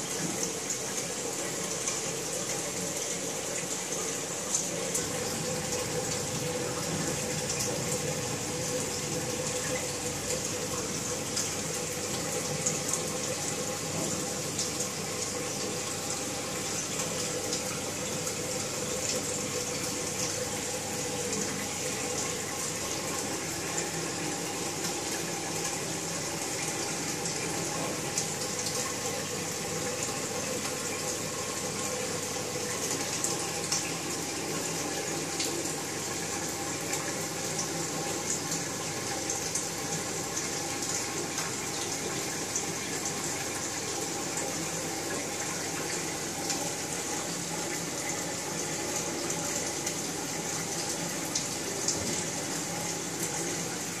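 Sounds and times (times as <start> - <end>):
faint steady hum: 0.0 - 54.0
water rushing through filter: 0.0 - 54.0.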